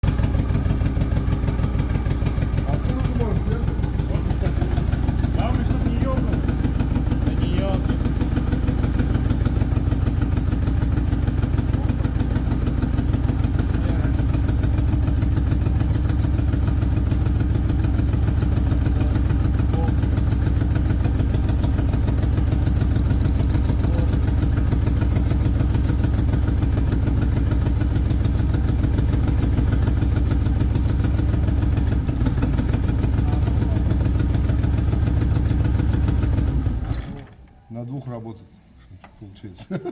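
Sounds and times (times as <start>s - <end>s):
car engine idling roughly: 0.0s - 37.4s
exhaust puffing: 0.0s - 37.5s.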